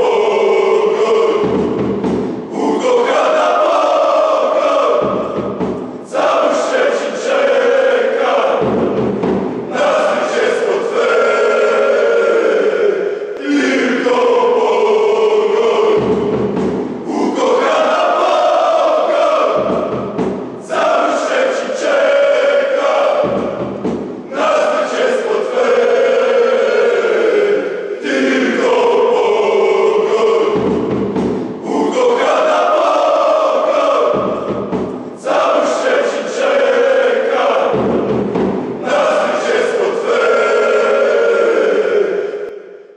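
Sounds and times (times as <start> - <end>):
crowd chanting in unison: 0.0 - 42.9.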